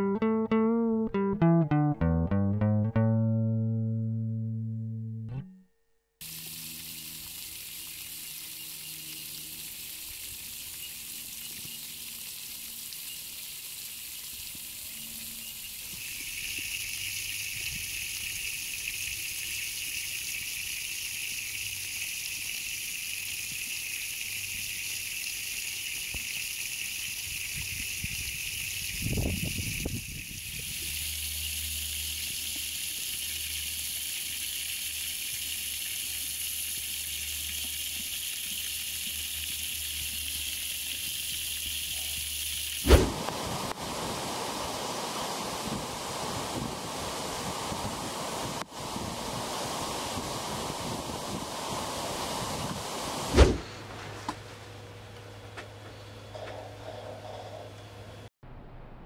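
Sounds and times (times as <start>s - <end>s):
garden hose spraying water: 6.2s - 54.5s.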